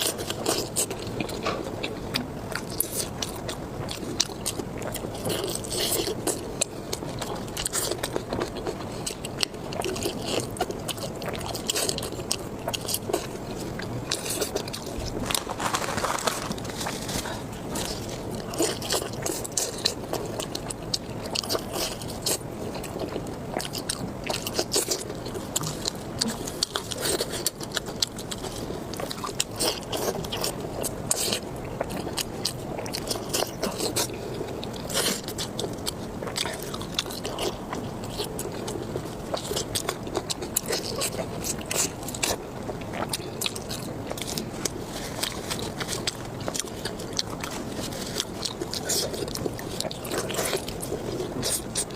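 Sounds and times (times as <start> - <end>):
crunchy bites and chewing: 0.0 - 51.9.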